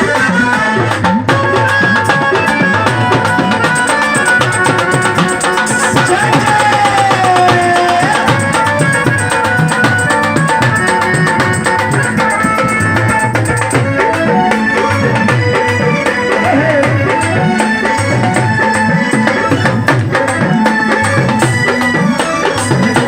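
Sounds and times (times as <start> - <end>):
hand drums: 0.0 - 23.0
rattling percussion: 0.0 - 23.0.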